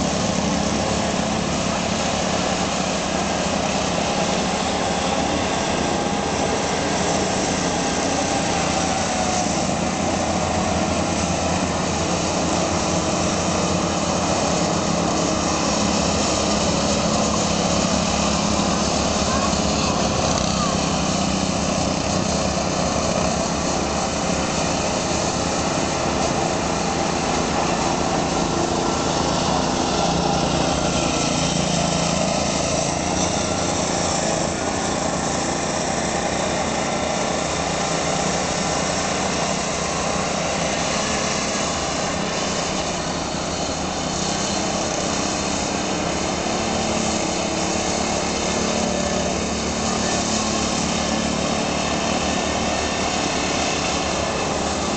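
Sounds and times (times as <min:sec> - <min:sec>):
go-kart engines buzzing: 0:00.0 - 0:54.9.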